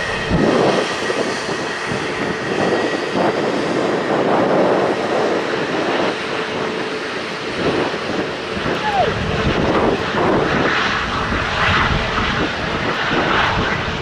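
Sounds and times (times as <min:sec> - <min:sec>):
jet engine rushing: 0:00.0 - 0:14.0
wind buffeting microphone: 0:00.0 - 0:14.0.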